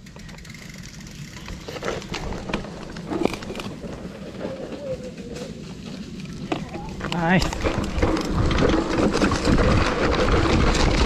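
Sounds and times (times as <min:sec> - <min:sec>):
bike rattling and knocking: 0:00.0 - 0:11.0
bike tyres rumbling on dirt: 0:00.0 - 0:11.0.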